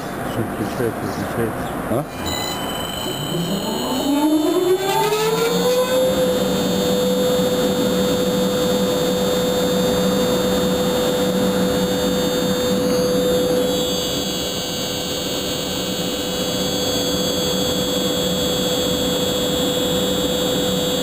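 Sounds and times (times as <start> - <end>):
ventilation fan humming: 0.0 - 21.0.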